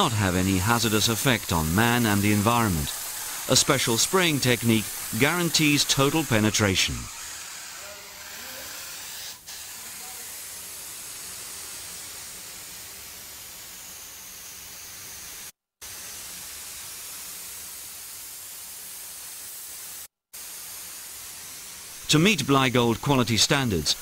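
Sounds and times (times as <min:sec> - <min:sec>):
spray gun hissing: 0:00.0 - 0:24.0.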